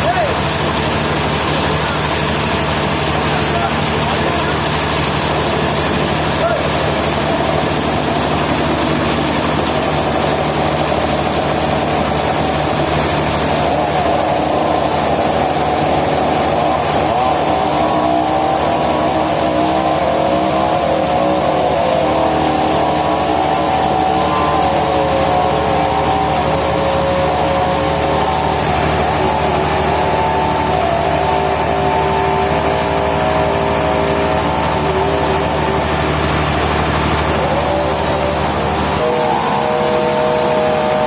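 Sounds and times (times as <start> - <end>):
engine droning: 0.0 - 41.0.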